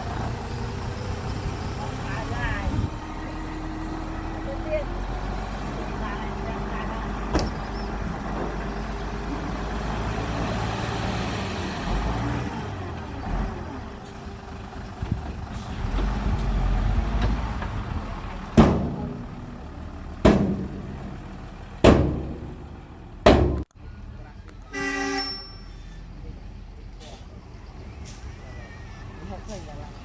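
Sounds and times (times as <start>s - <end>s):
diesel truck engines running: 0.0s - 30.0s.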